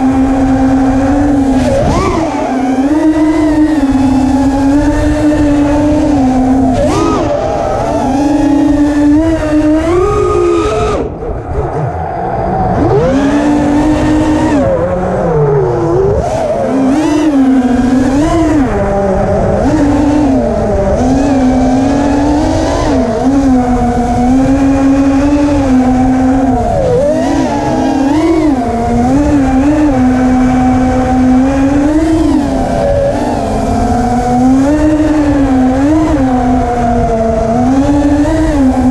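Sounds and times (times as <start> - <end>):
drone motors whining: 0.0 - 38.9.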